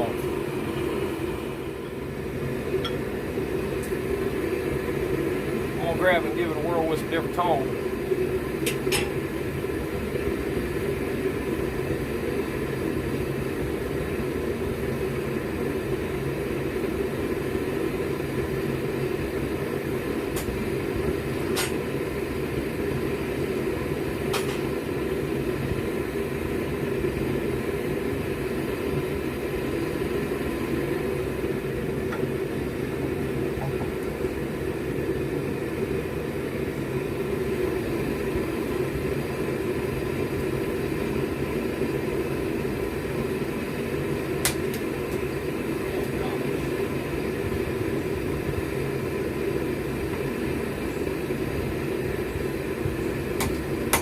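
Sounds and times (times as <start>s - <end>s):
forge burners roaring: 0.0s - 54.0s.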